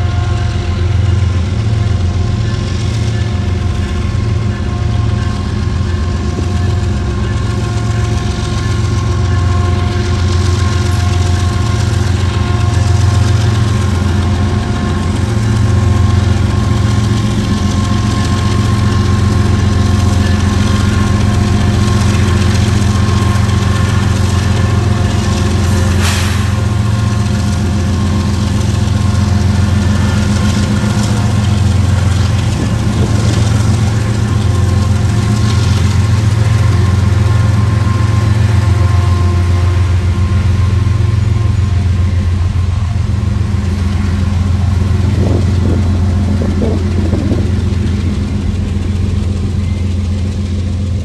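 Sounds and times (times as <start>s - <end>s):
locomotive diesel engines droning: 0.0s - 51.0s.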